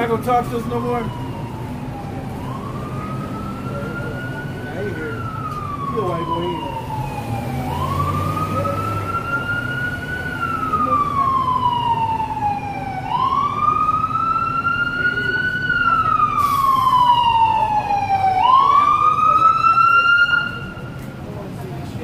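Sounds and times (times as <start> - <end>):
emergency siren wailing: 0.0 - 21.3.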